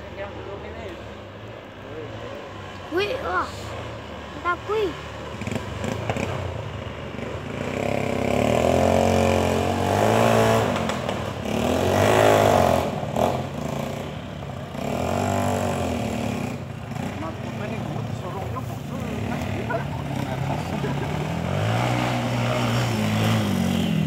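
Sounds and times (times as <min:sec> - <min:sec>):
motorcycle engine revving: 0:03.0 - 0:24.0.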